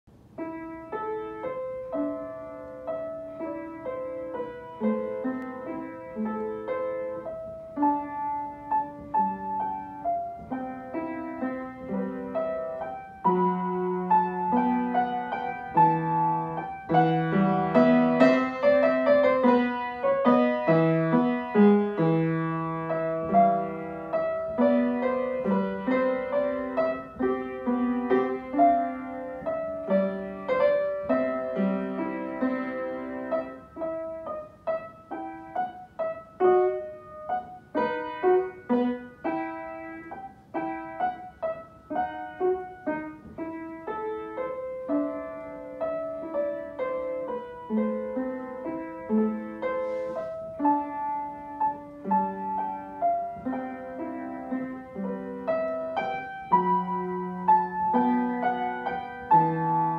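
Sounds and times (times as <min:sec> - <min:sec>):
solo piano playing: 0:00.1 - 0:59.9.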